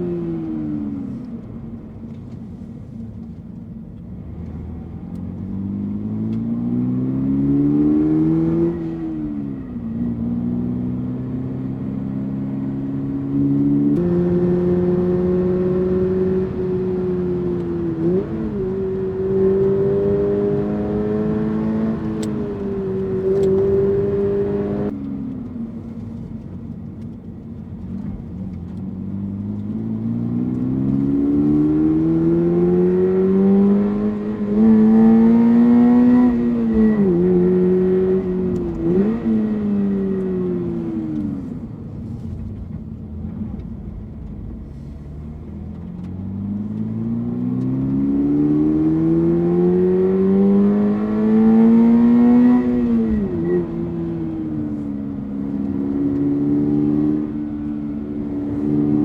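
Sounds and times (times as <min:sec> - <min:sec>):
car engine revving: 0:04.4 - 0:25.0, 0:27.9 - 0:59.0.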